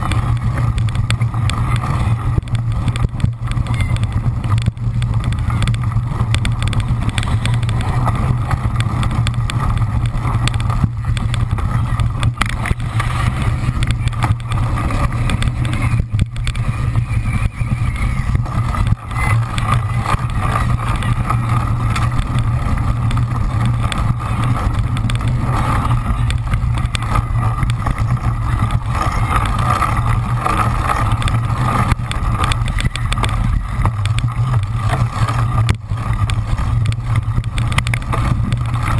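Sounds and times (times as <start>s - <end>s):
bike rumble and rattle: 0.0s - 38.9s
small knocks of bike jolting: 0.0s - 38.9s.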